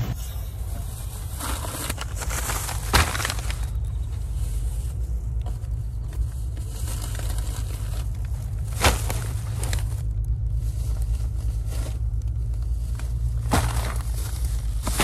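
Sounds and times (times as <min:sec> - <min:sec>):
low rumble: 0:00.0 - 0:15.0
plastic bags rustling: 0:00.5 - 0:15.0.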